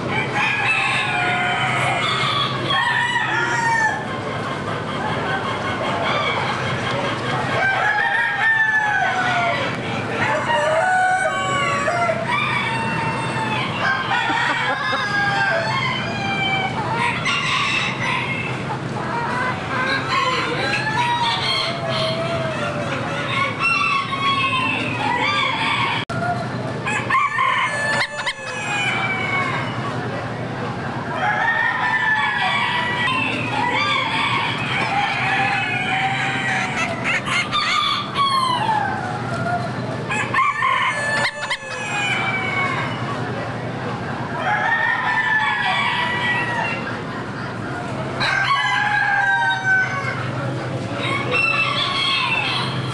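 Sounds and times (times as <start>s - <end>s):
chickens clucking: 0.0s - 52.9s
roosters crowing: 0.0s - 52.9s.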